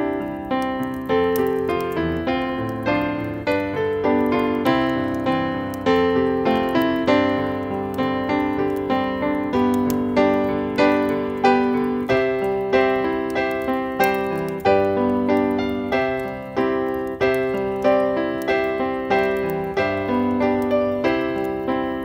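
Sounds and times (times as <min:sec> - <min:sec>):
solo piano playing: 0:00.0 - 0:22.0.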